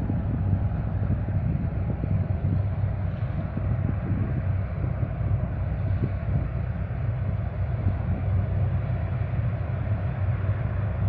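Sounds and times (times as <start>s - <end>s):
boat engine droning: 0.0s - 11.0s
wind: 0.0s - 11.0s.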